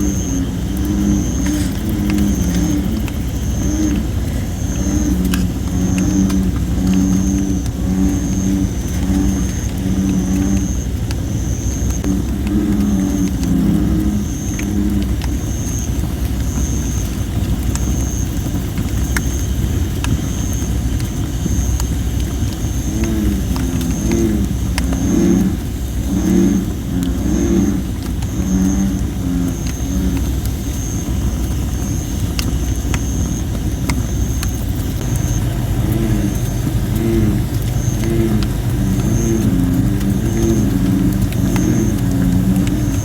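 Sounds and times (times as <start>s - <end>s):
bullfrogs calling: 0.0s - 43.0s
wood fire crackling: 0.0s - 43.0s.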